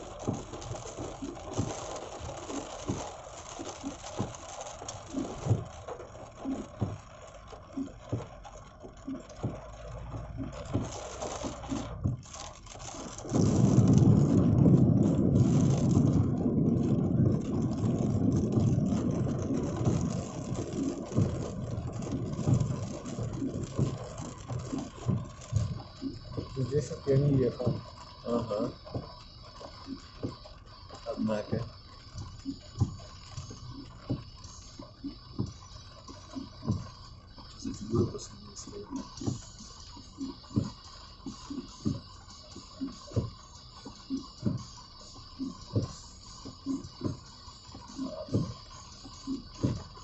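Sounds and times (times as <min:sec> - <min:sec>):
rain on a moving car: 0:00.0 - 0:50.0
road and engine noise: 0:00.0 - 0:50.0.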